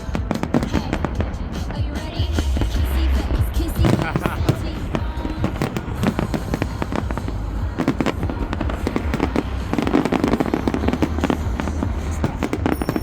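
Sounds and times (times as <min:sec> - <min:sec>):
fireworks bangs and crackles: 0:00.0 - 0:13.0
music playing: 0:00.0 - 0:13.0
low rumble: 0:02.2 - 0:13.0.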